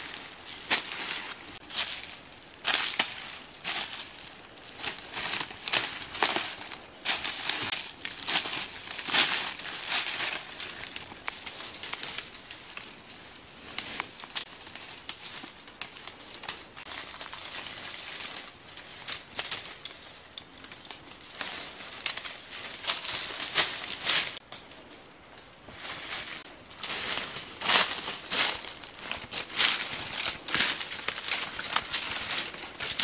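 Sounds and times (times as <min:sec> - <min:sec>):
branches rustling: 0:00.0 - 0:33.0
dry leaves and twigs crunching: 0:00.0 - 0:33.0.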